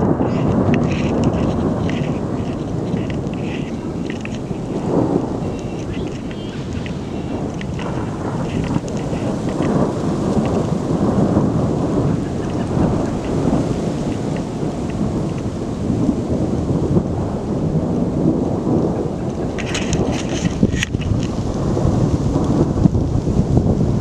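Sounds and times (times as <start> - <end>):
crackles: 0.0 - 17.0, 18.0 - 23.3
low rumble of thunder: 0.0 - 24.0.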